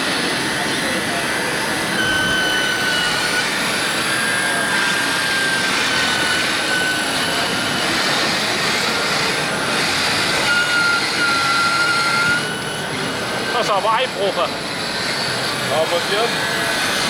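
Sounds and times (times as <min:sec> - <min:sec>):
electric motor whine: 0:00.0 - 0:17.0
noisy background: 0:00.0 - 0:17.0.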